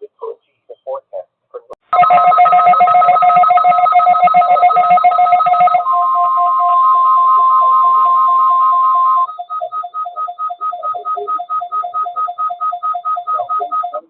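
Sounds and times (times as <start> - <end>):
steady alarm tone: 1.9 - 14.0
rapid pulsing two-pitch beeping: 2.0 - 14.0.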